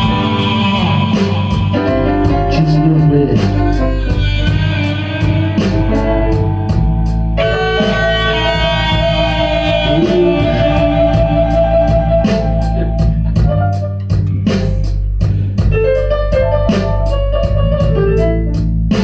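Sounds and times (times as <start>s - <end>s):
blues-rock band playing: 0.0s - 19.0s
electric guitar bending notes: 0.0s - 19.0s.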